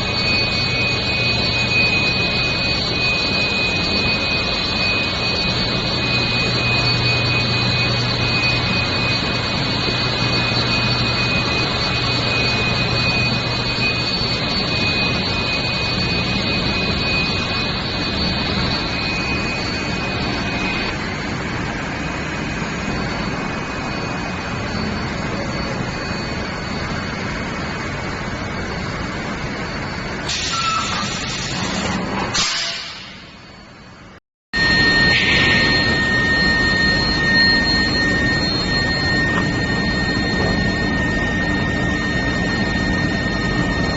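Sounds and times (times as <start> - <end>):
low machine hum: 0.0 - 30.3, 33.8 - 43.9
high steady machine whine: 0.0 - 43.9
industrial machine noise: 0.0 - 43.9.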